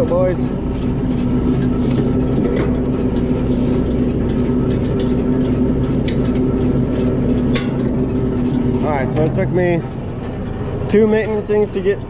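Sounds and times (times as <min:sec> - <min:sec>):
tractor running: 0:00.0 - 0:12.0.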